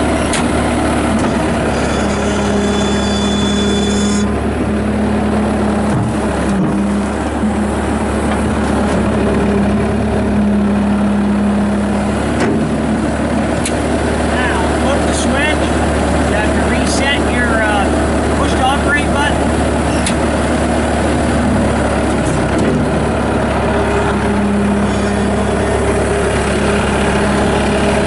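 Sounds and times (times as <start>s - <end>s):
diesel engine running: 0.0s - 28.0s
high whine: 0.0s - 28.0s.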